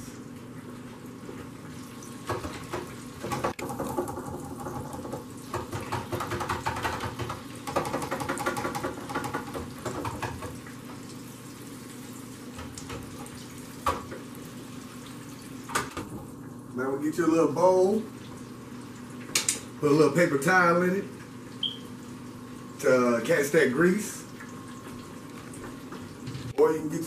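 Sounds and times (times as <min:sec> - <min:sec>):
oil bubbling and crackling: 0:00.0 - 0:16.8, 0:17.8 - 0:26.6.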